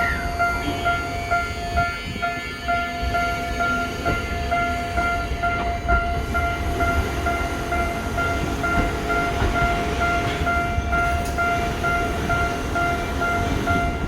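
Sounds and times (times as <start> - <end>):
level-crossing warning bell: 0.0 - 14.0
train rumbling on tracks: 0.0 - 14.0.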